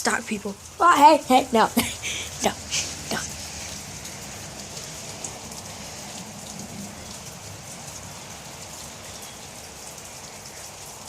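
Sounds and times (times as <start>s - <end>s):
raindrops ticking: 0.0s - 11.0s
steady rain hissing: 0.0s - 11.0s.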